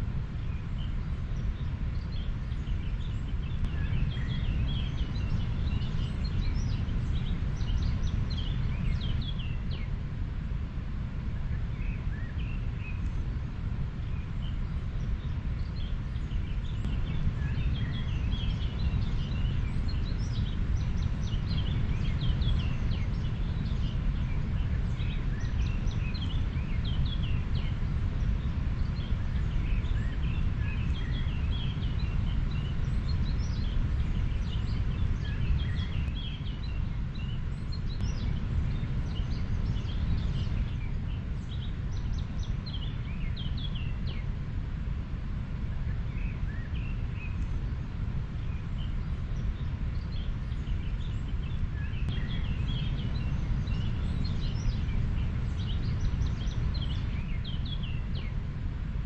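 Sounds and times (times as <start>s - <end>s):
small birds chirping: 0.2s - 10.0s, 11.3s - 44.4s, 45.6s - 58.7s.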